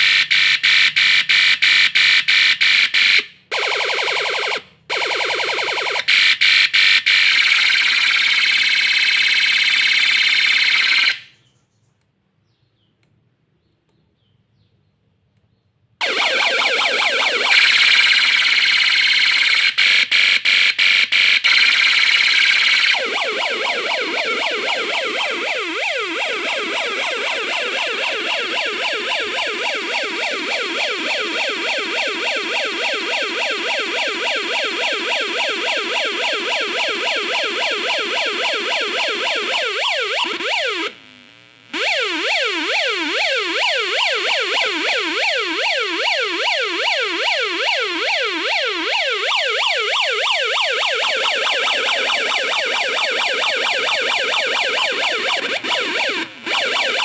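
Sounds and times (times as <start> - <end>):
steady siren tone: 0.0 - 11.3, 16.0 - 57.0
warbling siren: 0.0 - 11.3, 16.0 - 57.0.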